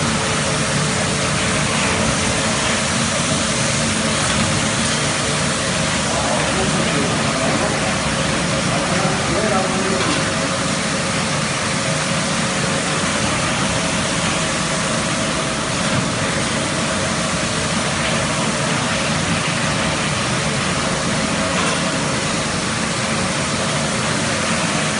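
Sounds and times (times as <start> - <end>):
carpet washing machine running: 0.0 - 24.9.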